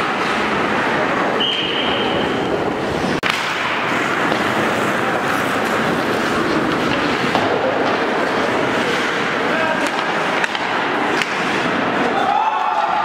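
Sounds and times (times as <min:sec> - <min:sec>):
hockey sticks clattering: 0:00.0 - 0:13.0
skate blades scraping ice: 0:00.0 - 0:13.0.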